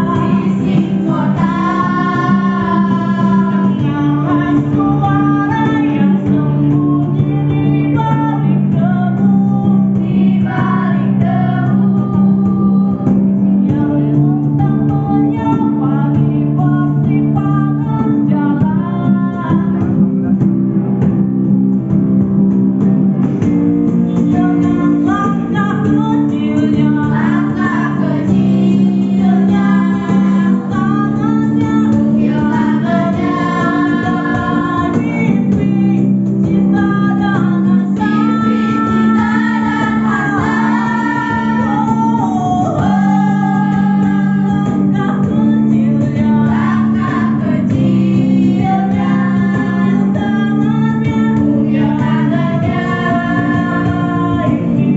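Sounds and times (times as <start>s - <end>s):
people singing: 0.0s - 20.0s, 24.2s - 54.9s
guitar chords: 0.0s - 54.9s.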